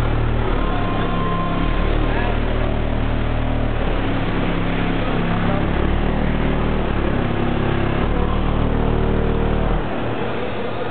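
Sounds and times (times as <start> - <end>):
loud steady bass tone: 0.0 - 10.2.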